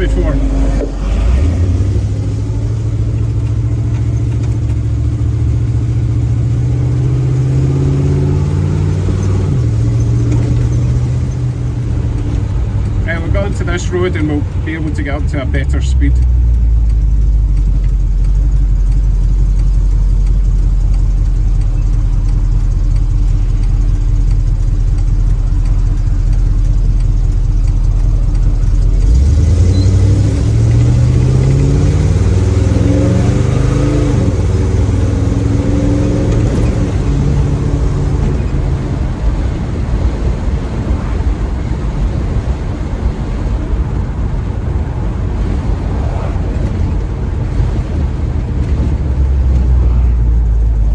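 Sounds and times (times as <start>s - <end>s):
car engine droning: 0.0s - 50.9s
wind and road noise: 0.0s - 50.9s.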